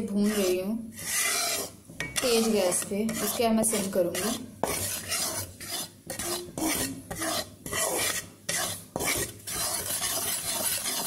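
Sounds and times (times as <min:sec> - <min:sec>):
flour scraped around a pan: 0:00.0 - 0:11.0.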